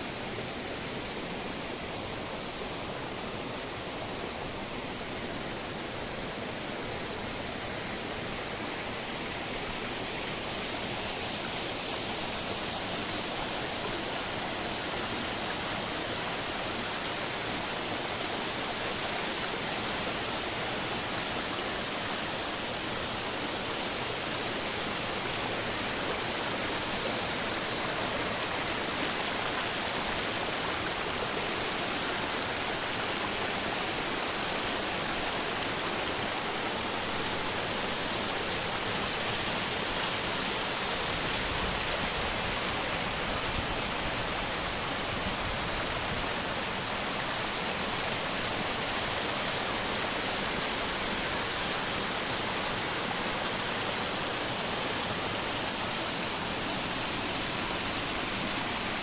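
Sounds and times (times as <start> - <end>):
waterfall rushing into pool: 0.0 - 59.0.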